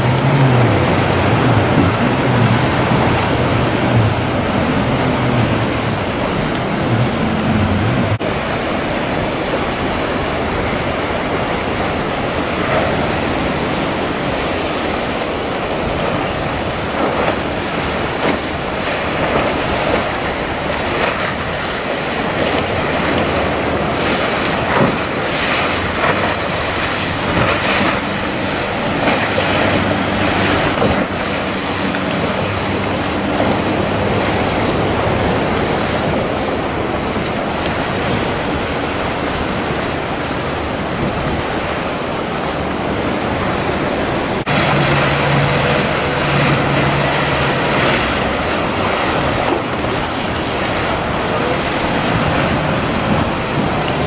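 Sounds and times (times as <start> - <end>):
outboard motors humming: 0.0 - 54.0
sea surf and breaking waves: 0.0 - 54.0
wind buffeting microphone: 0.0 - 54.0.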